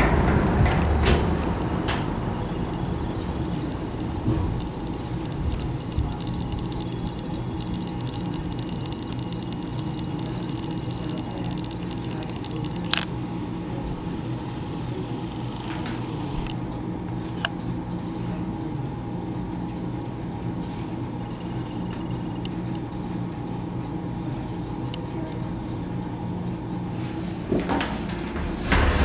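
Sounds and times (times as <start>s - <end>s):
box fan motor humming: 0.0s - 29.0s.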